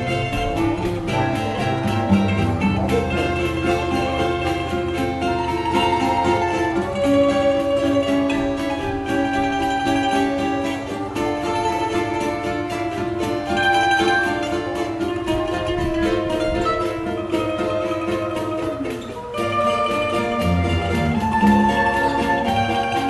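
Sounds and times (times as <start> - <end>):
percussion rhythm: 0.0 - 23.0
plucked string instruments: 0.0 - 23.0.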